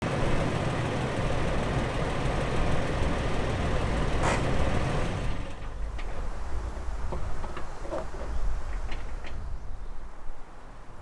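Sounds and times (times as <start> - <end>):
vehicle engine rumble: 0.0 - 10.0
road and tyre noise: 0.0 - 11.0.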